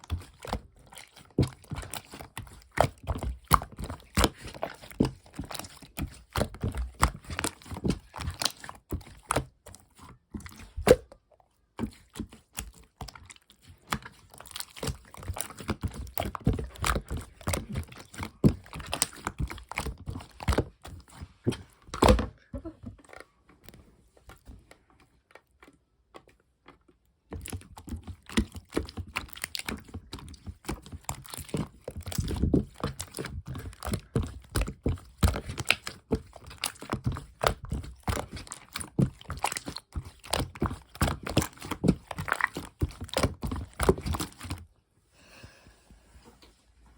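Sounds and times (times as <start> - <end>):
slime squishing with sticky pops: 0.0 - 44.7.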